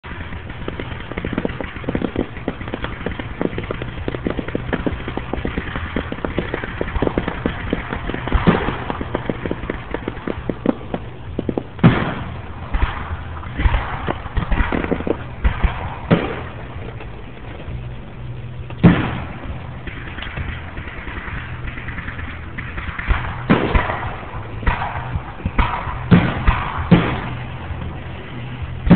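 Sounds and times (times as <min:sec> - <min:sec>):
fireworks bangs: 0:00.0 - 0:28.9
fireworks crackling: 0:00.0 - 0:28.9.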